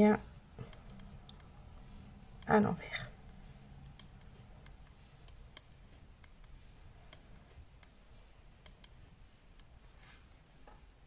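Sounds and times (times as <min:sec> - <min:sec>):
knitting needles clicking: 0:00.0 - 0:09.9.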